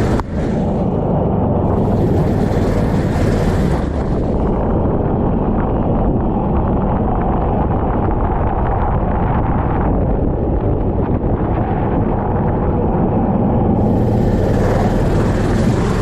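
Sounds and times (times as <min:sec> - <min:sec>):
kart engine running: 0:00.0 - 0:16.0
wind noise on microphone: 0:00.0 - 0:16.0.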